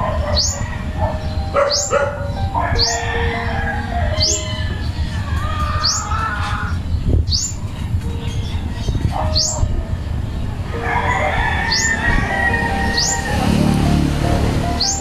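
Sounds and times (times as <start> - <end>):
low wavering bird calls: 0.0 - 13.9
high rising bird chirp: 0.2 - 13.4.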